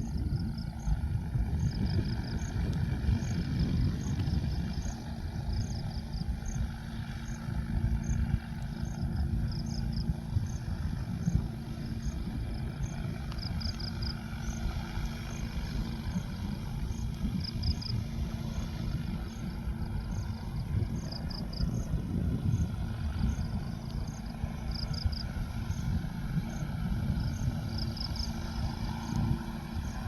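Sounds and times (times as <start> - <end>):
drone rotors rumbling: 0.0 - 30.0.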